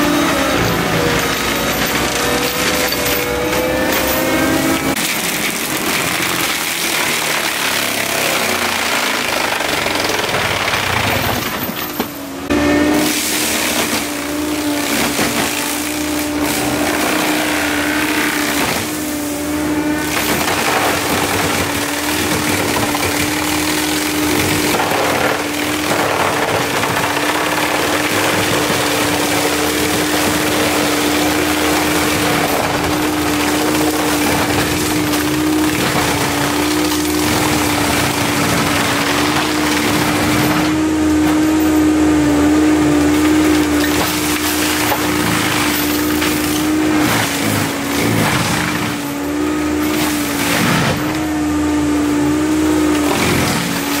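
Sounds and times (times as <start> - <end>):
mulcher drum grinding brush: 0.0 - 9.9, 10.5 - 54.0
diesel engine: 0.0 - 54.0.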